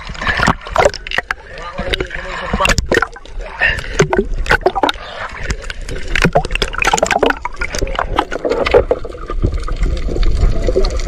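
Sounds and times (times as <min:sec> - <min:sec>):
muffled underwater sound: 0:00.0 - 0:11.0
sea water splashing: 0:00.0 - 0:11.0.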